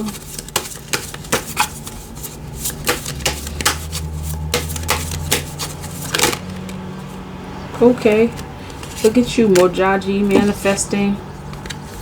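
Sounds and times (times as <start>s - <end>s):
cards tapping and clicking: 0.0s - 7.2s, 8.2s - 10.8s, 11.4s - 12.0s.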